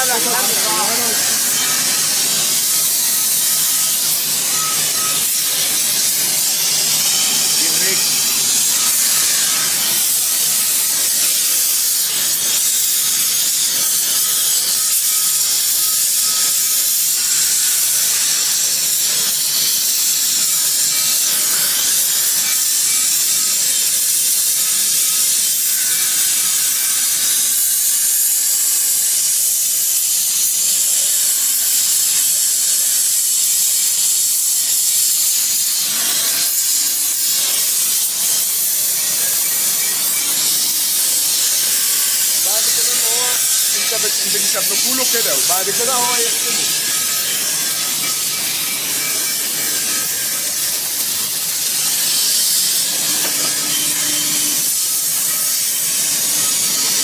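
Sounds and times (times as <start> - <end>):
gas torch hissing: 0.0 - 57.0.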